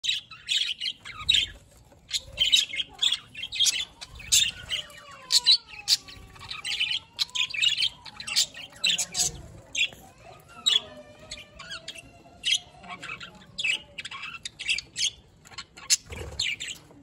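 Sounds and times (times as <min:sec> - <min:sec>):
budgerigars chirping: 0:00.0 - 0:17.0.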